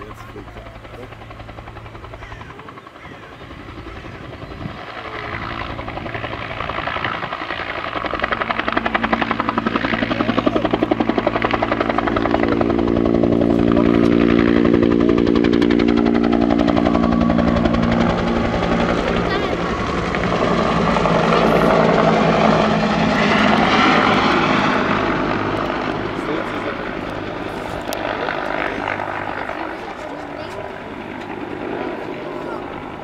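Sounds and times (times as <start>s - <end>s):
helicopter rotor beating: 0.0s - 33.0s
helicopter turbine: 0.0s - 33.0s.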